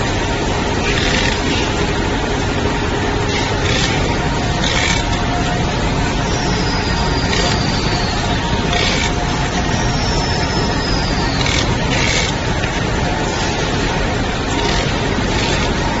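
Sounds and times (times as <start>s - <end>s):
machine running: 0.0s - 16.0s.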